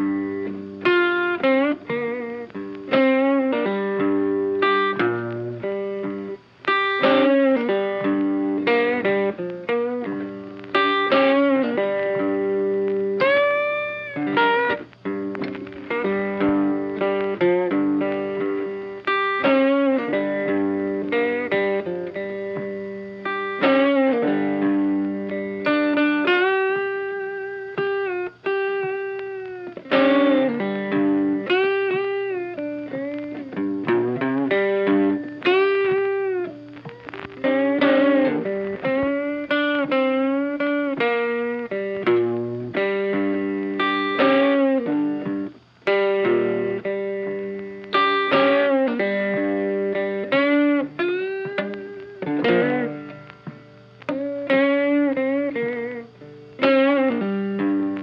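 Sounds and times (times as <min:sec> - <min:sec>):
electric guitar melody with effects: 0:00.0 - 0:58.0.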